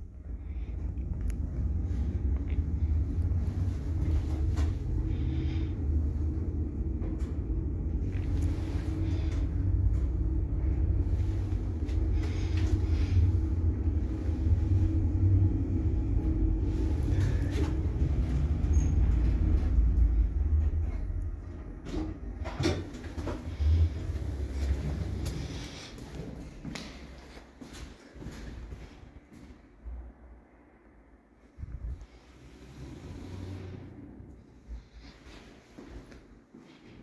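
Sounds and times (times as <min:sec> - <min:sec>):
lift low rumble with hum: 0:00.0 - 0:37.0.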